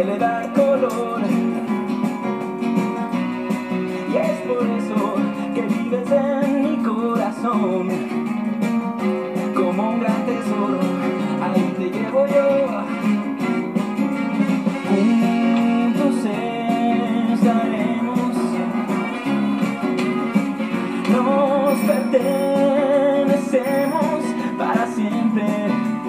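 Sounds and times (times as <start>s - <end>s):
person singing: 0.0s - 1.7s, 3.8s - 8.3s, 9.3s - 13.4s, 14.7s - 26.0s
strummed acoustic guitar: 0.0s - 26.0s.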